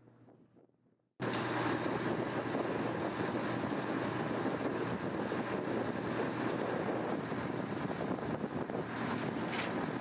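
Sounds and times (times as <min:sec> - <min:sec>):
wind on microphone: 0:01.4 - 0:10.0.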